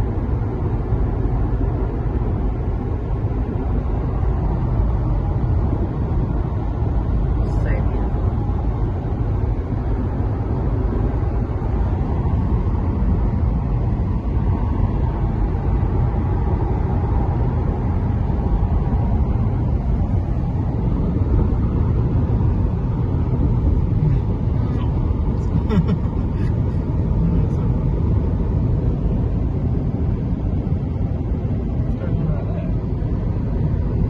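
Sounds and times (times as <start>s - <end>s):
car cabin road noise: 0.0s - 34.0s.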